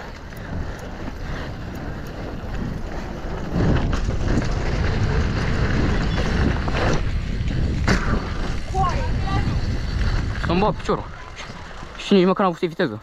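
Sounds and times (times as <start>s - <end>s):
wind on microphone: 0.0s - 12.0s
low bike ride rumble: 0.0s - 13.0s.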